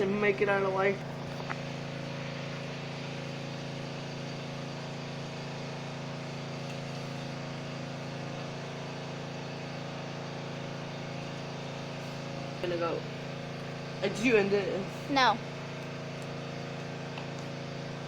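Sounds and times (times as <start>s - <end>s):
pressure washer engine running: 0.0s - 18.0s.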